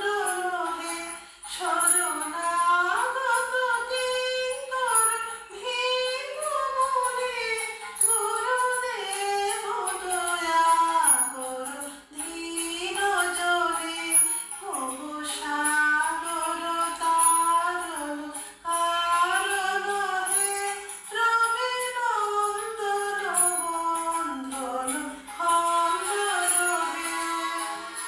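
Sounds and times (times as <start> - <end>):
woman singing a hymn: 0.0 - 28.0.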